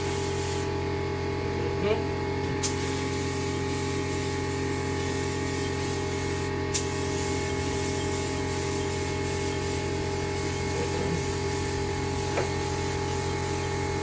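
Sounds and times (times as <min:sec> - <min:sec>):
paint spray gun hissing: 0:00.0 - 0:00.7, 0:02.6 - 0:14.0
steady low hum: 0:00.0 - 0:14.0.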